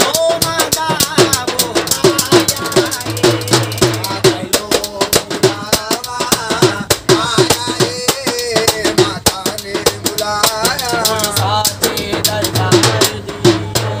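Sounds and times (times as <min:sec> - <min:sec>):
hand drum beating: 0:00.0 - 0:14.0
man singing: 0:00.0 - 0:14.0.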